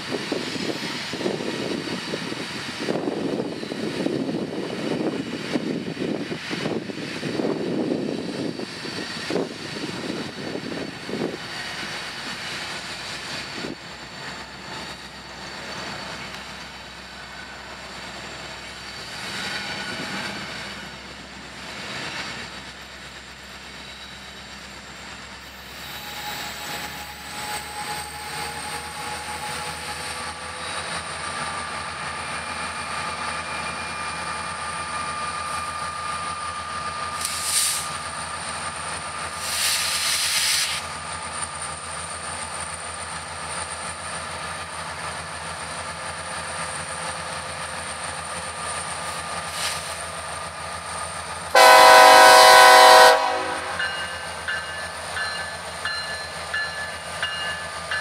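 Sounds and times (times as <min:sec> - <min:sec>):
diesel locomotive engine drone: 0:00.0 - 0:58.0
wheel and rail noise: 0:00.0 - 0:58.0.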